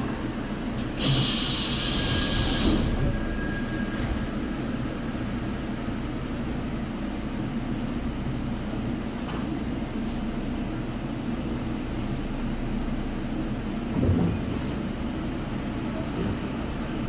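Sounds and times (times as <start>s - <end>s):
subway train low rumble and hum: 0.0s - 17.0s.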